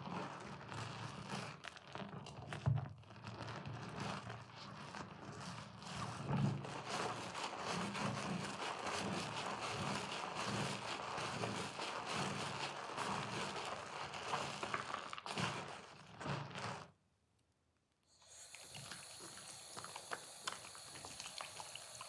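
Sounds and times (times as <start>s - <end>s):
foam bubbles popping: 0.0s - 16.8s, 18.3s - 22.0s
wet sponge squelching: 0.0s - 16.9s, 18.3s - 22.0s.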